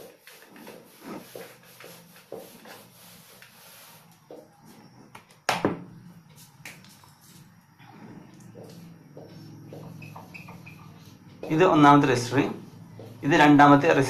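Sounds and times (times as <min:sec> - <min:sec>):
duster wiping a whiteboard: 0:00.0 - 0:05.1, 0:06.2 - 0:14.0.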